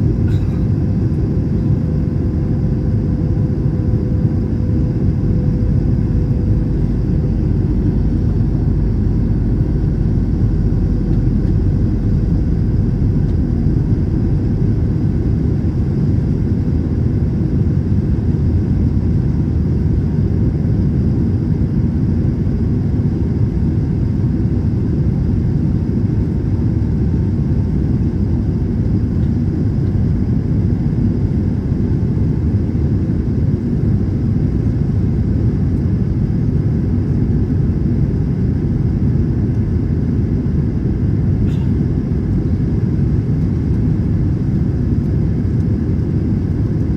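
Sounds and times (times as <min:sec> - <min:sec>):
airplane cabin engine rumble: 0:00.0 - 0:46.9.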